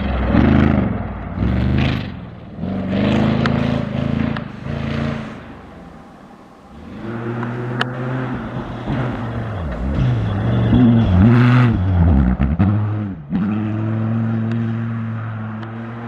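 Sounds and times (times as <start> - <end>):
second engine: 0.0 - 16.0
vehicle engine revving: 0.0 - 16.0.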